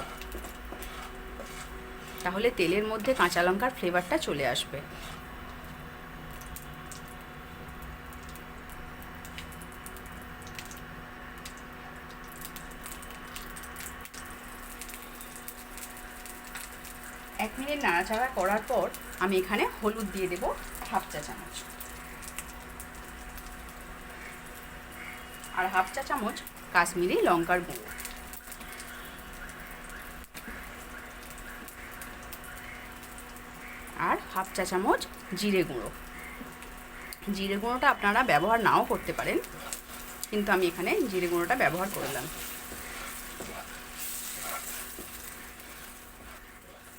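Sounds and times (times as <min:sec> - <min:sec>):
chillies sizzling in hot oil: 0:00.0 - 0:46.9
faint steady hum: 0:00.0 - 0:46.9
oil crackles and pops: 0:00.0 - 0:46.9.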